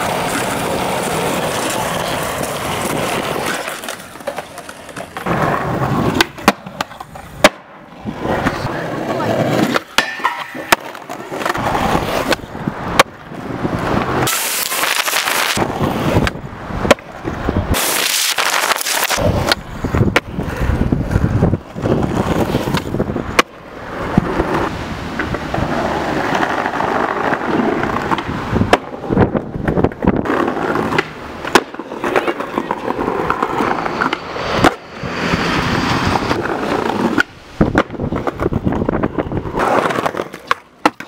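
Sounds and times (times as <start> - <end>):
skateboard tail popping and landing: 0.0 - 8.7, 9.3 - 34.9, 36.1 - 41.0
skateboard wheels rolling on concrete: 0.0 - 41.0.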